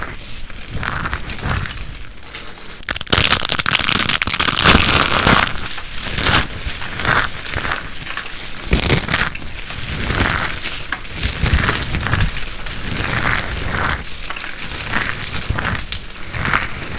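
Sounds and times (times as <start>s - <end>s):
dry soap crunching: 0.0s - 16.9s.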